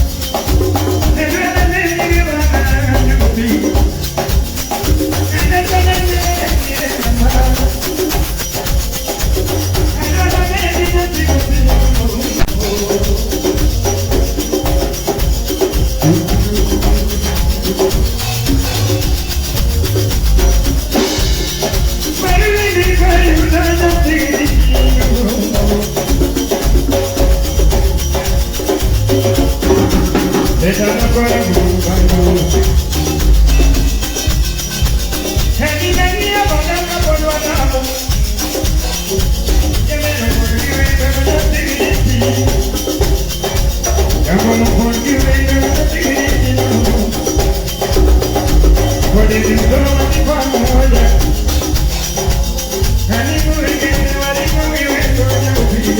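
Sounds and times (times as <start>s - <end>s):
heavy bass beat: 0.0s - 55.9s
live band playing dance music: 0.0s - 55.9s.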